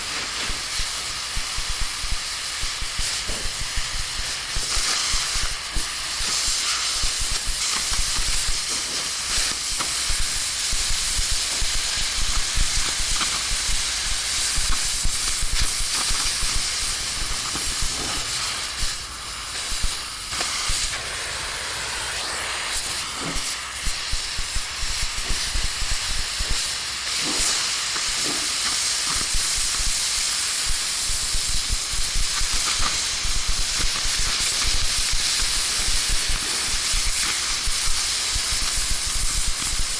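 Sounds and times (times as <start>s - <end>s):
loud hissing: 0.0s - 39.9s.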